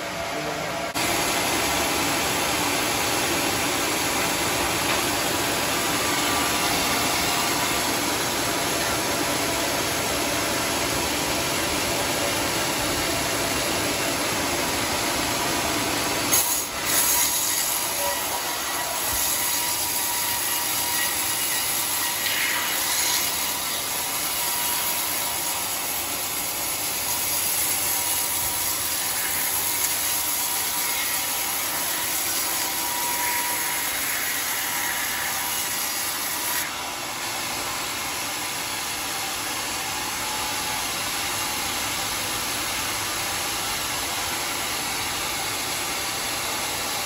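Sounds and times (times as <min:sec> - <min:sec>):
band saw cutting log: 0:00.9 - 0:14.4, 0:15.3 - 0:43.2.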